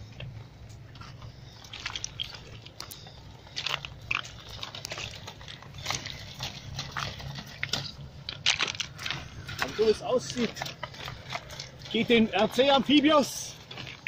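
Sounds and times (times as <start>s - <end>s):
steady low hum: 0.0s - 14.0s
tyres crunching on pebbles: 0.0s - 14.0s.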